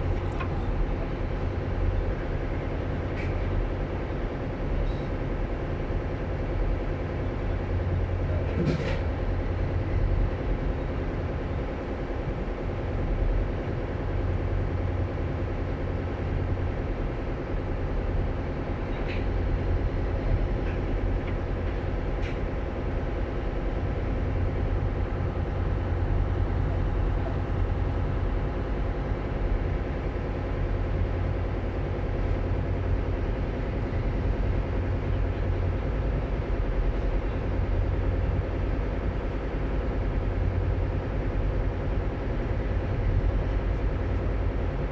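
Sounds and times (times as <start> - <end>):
ship diesel engines droning: 0.0 - 44.9.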